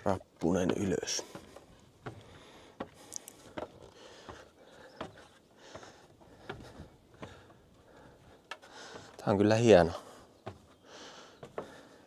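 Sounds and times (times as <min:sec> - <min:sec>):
footsteps on wooden stairs: 0:00.0 - 0:12.0.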